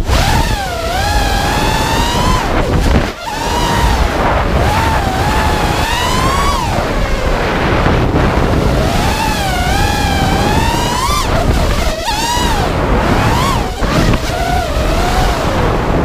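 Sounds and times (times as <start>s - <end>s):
drone motors whining: 0.0s - 16.0s
wind rush on microphone: 0.0s - 16.0s.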